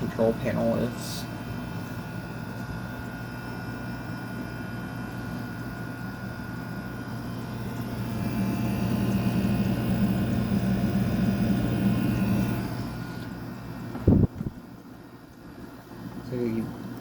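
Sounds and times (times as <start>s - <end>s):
air conditioner running: 0.0s - 17.0s.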